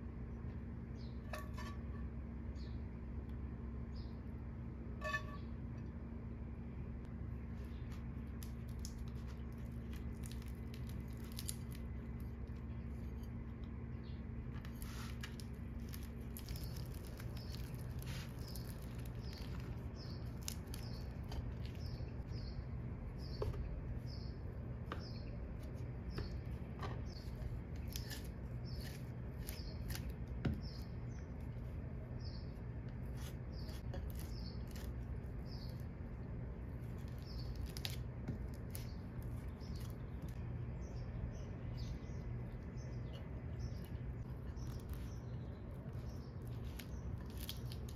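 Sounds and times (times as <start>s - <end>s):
steady low hum: 0.0s - 47.9s
small bird chirping: 0.4s - 2.9s, 7.6s - 47.9s.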